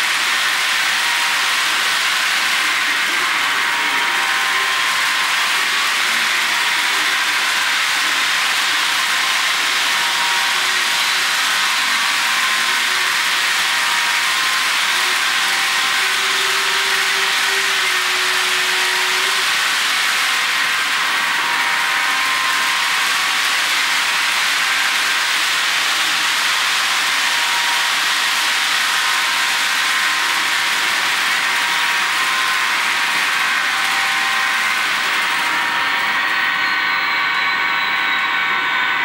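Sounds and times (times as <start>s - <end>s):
model train whirring on rails: 0.0s - 39.0s.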